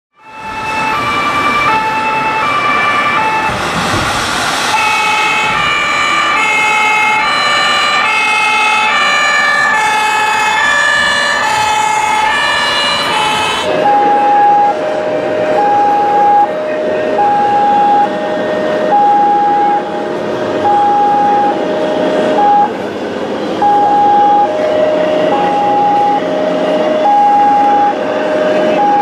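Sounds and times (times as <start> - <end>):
two-tone siren: 0.2 - 3.8, 4.7 - 20.0, 20.6 - 22.8, 23.6 - 29.0
second siren pattern: 0.2 - 22.8, 23.6 - 29.0.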